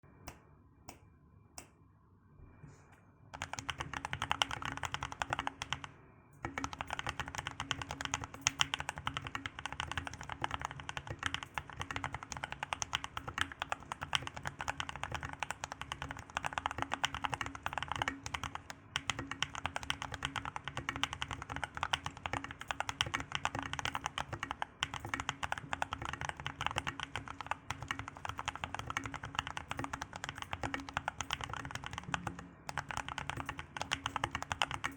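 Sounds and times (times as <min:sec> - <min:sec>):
fast mechanical keyboard typing: 0:03.3 - 0:34.9.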